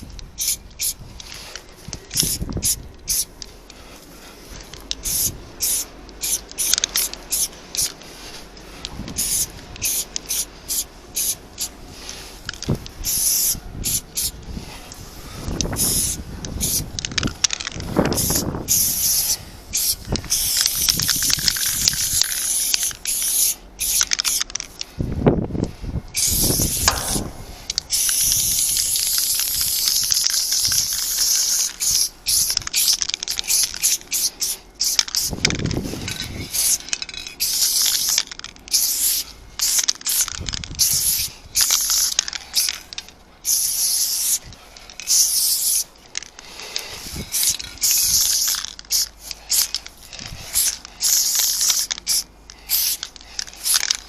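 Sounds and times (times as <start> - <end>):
spray paint can hissing: 0.0 - 3.3, 4.6 - 8.4, 9.1 - 24.8, 26.1 - 54.0.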